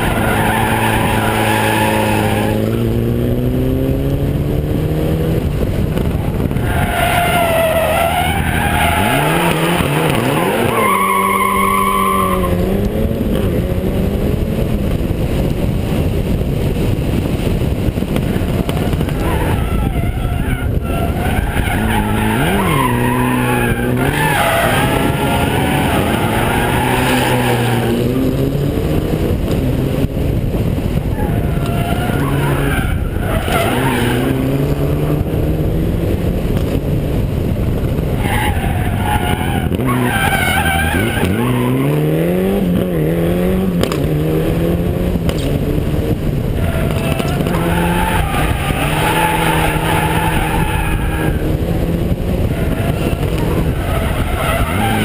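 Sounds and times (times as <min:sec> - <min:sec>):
car engine revving hard: 0:00.0 - 0:30.4, 0:31.0 - 0:55.0
wind noise on microphone: 0:00.0 - 0:55.0.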